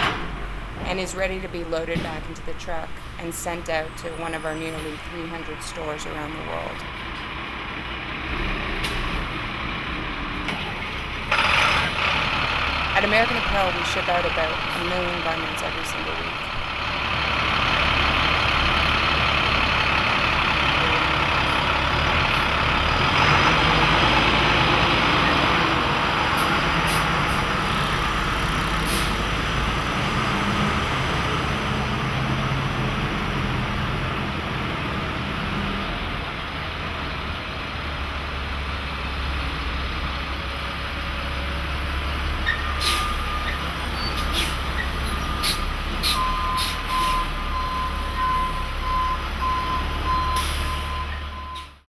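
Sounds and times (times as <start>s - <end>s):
truck engine running: 0.0s - 51.6s.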